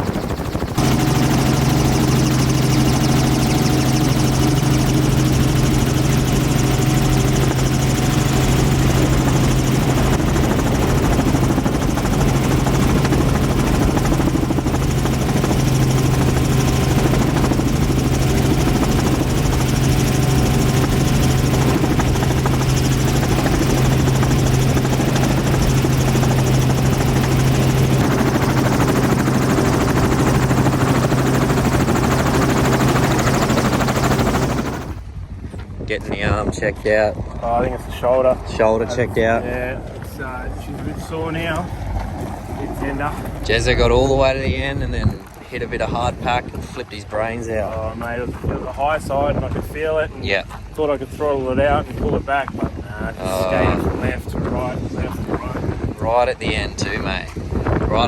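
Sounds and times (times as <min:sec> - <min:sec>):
helicopter drone: 0:00.0 - 0:35.4, 0:36.1 - 0:58.0.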